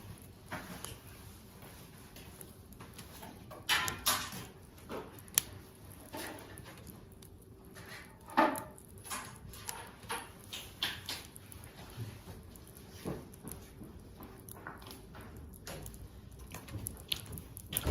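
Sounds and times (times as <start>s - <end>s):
wood fire crackling and popping: 0.0s - 17.9s.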